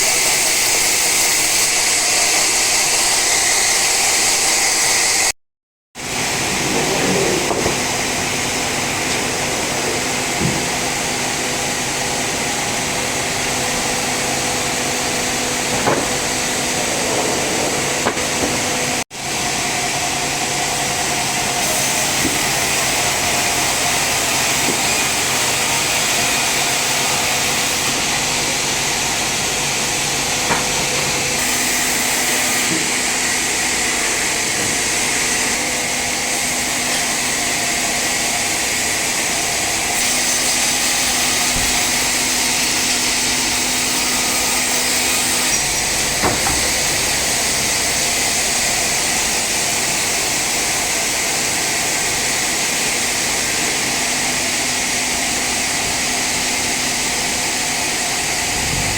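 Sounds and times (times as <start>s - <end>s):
sawmill saw cutting log: 0.0s - 5.3s, 6.0s - 58.9s.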